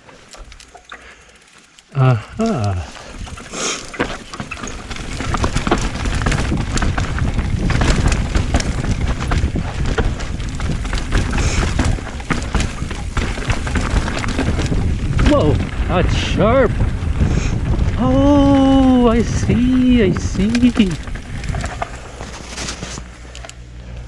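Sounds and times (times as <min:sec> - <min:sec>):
bike rattling and knocking: 0:00.0 - 0:01.7, 0:02.4 - 0:23.7
wind and tyres rumbling: 0:00.0 - 0:24.0.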